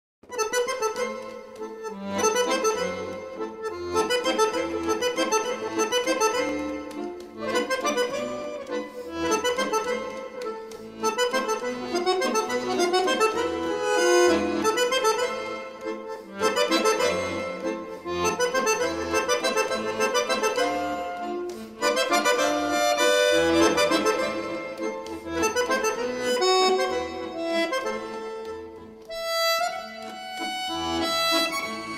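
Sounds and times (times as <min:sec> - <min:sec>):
bandoneon melody: 0:00.3 - 0:31.9.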